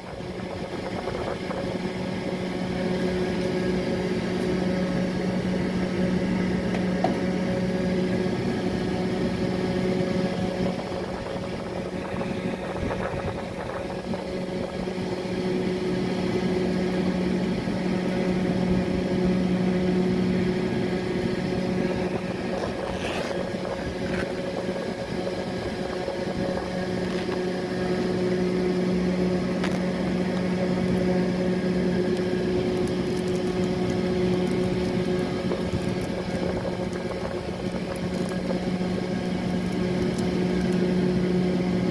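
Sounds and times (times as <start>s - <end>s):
motor hum: 0.0s - 41.9s.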